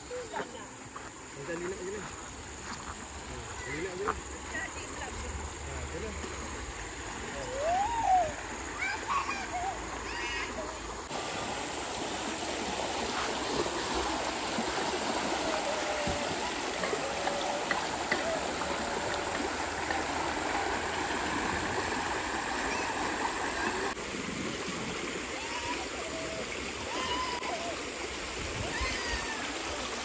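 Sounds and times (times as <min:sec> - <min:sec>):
river water babbling over rocks: 0:00.0 - 0:30.0.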